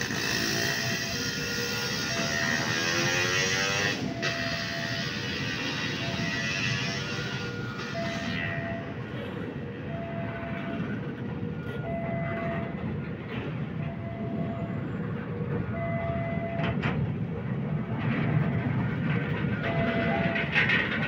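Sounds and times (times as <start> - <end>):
train wheels rumbling on rail: 0.0 - 21.0
two-tone crossing warning signal: 0.0 - 21.0.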